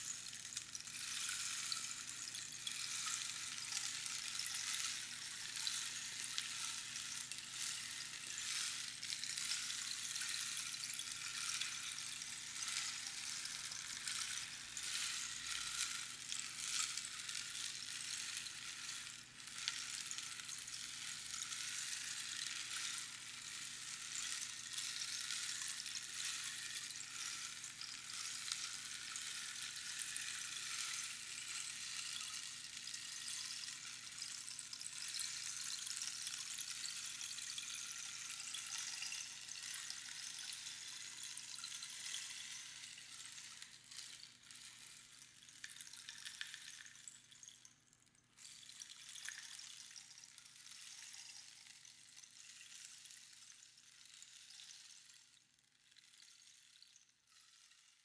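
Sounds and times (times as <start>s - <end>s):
rainstick pebbles trickling: 0.0s - 58.0s.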